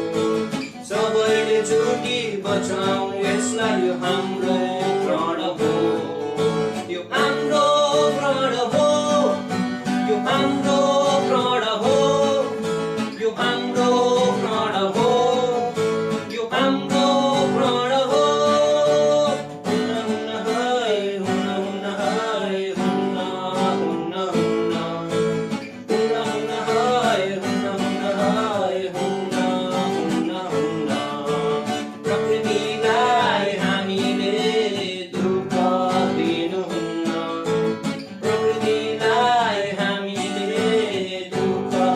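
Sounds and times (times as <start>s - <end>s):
acoustic guitar: 0.0s - 41.9s.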